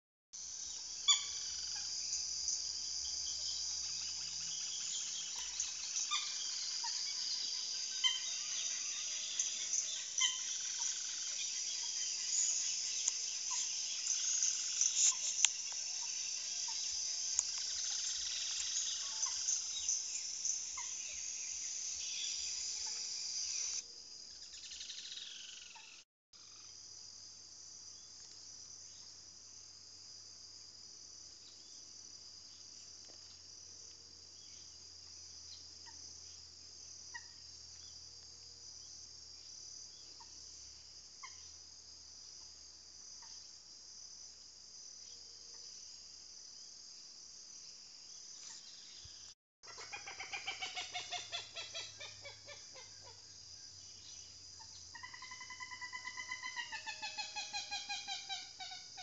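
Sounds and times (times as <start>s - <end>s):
insect chorus: 0.4s - 59.0s.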